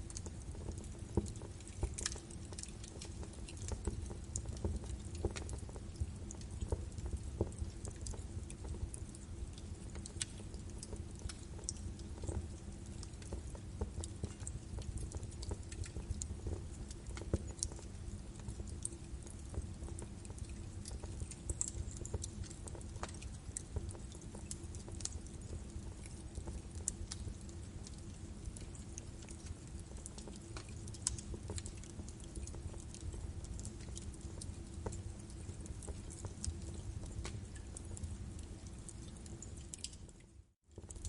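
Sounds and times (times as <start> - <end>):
fire crackling and popping: 0.0 - 41.0
low rumble of flames: 0.0 - 41.0.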